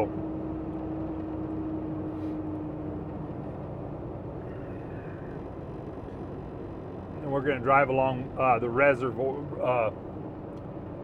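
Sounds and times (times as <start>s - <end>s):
truck diesel engine and tyres: 0.0s - 11.0s.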